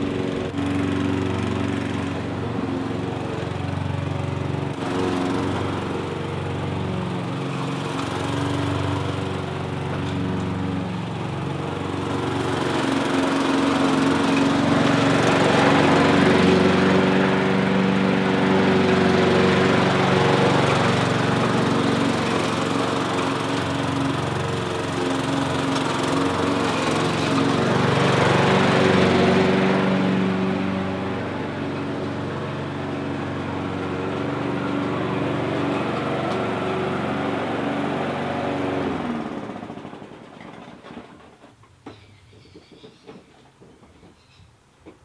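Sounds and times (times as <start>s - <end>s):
push mower engine running: 0.0s - 44.2s.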